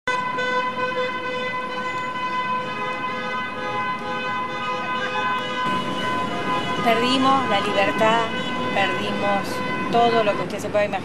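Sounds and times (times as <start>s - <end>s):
steady horn-like tone: 0.1s - 10.8s.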